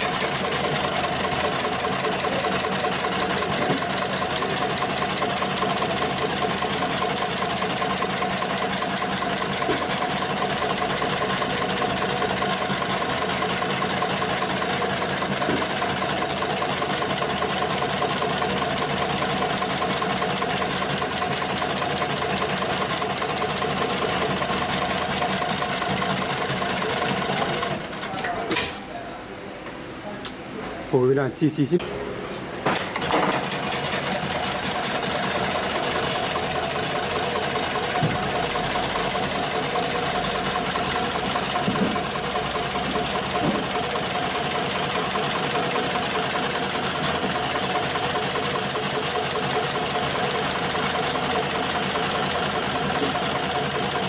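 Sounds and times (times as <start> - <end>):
sewing machine stitching: 0.0 - 28.2, 32.9 - 54.0.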